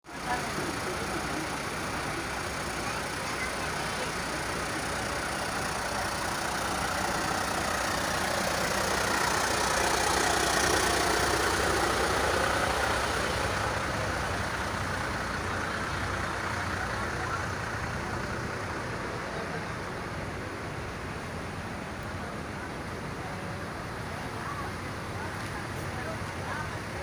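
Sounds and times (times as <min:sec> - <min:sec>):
bus engine idling: 0:00.0 - 0:27.0
traffic noise: 0:00.0 - 0:27.0.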